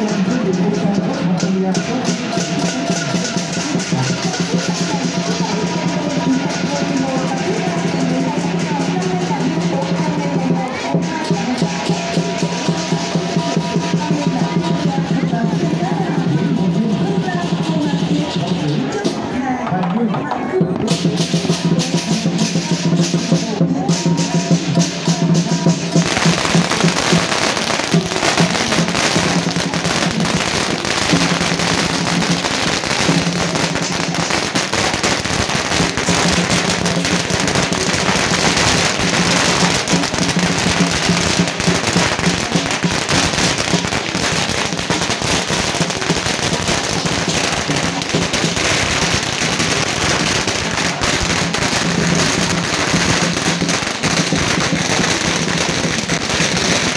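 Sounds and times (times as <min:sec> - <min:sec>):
drumming: 0:00.0 - 0:56.9
firecrackers crackling: 0:00.0 - 0:56.9.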